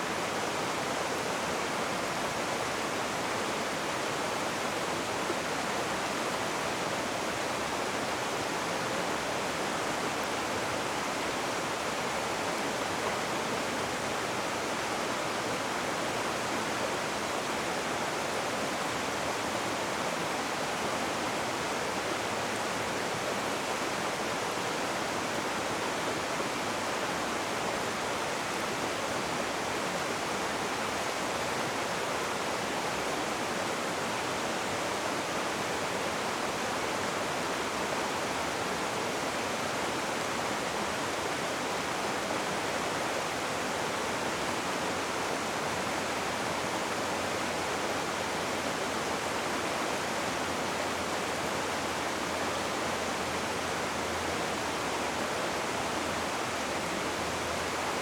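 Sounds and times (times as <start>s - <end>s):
rushing river water: 0.0s - 58.0s.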